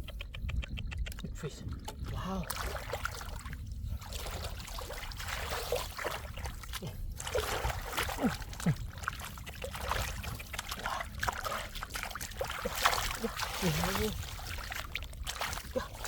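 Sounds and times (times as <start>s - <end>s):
low rumble of moving water: 0.0s - 16.0s
floodwater splashing: 1.7s - 16.0s.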